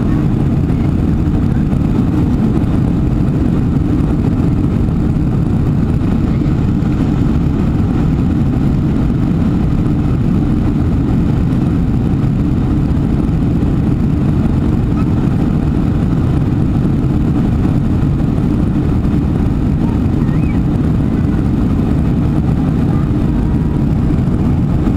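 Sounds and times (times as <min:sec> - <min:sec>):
airplane cabin engine noise: 0:00.0 - 0:24.9.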